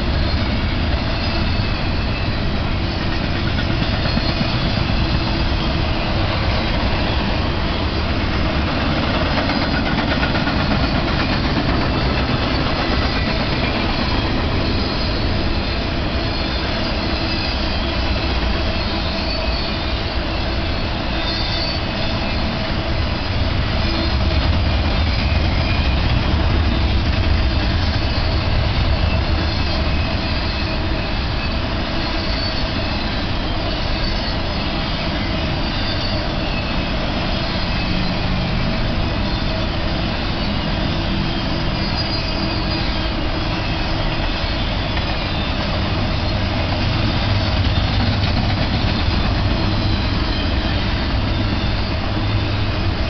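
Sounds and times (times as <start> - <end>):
freight train cars rolling past: 0.0 - 53.0.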